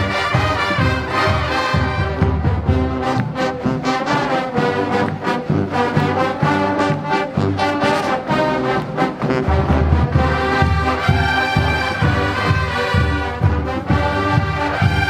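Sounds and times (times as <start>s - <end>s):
marching band playing: 0.0s - 15.0s
steady drum beat: 0.0s - 15.0s.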